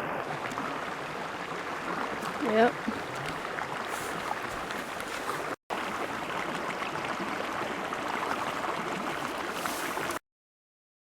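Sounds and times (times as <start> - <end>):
stream water babbling: 0.0 - 10.2.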